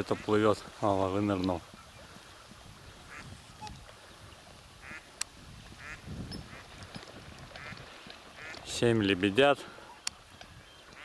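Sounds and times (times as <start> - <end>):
soft swan calls: 0.0 - 8.7, 9.7 - 11.0.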